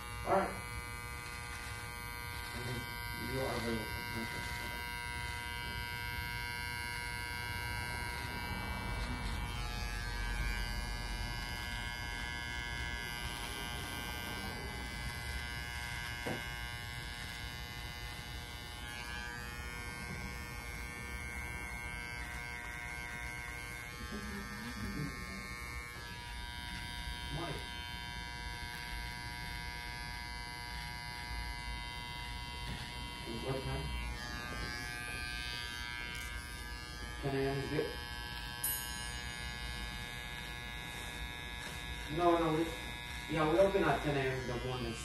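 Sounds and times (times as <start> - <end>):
electric beard trimmer buzzing: 0.0 - 45.0.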